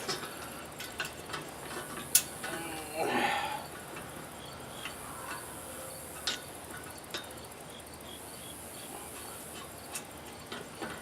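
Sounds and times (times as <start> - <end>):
metal bolts and nuts clicking: 0.0 - 3.0, 3.7 - 11.0.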